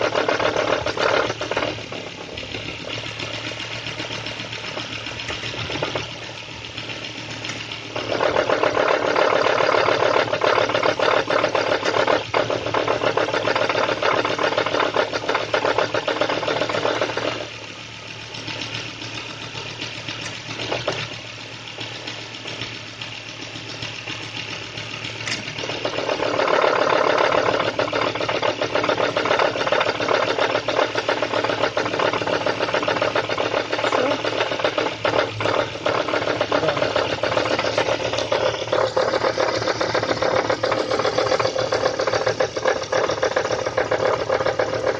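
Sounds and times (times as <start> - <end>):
car engine idling with knock: 0.0 - 44.9.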